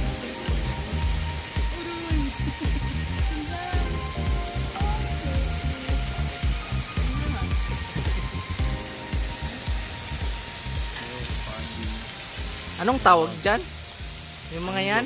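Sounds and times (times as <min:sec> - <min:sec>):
background music with beat: 0:00.0 - 0:14.7
meat sizzling on grill pans: 0:00.0 - 0:15.0.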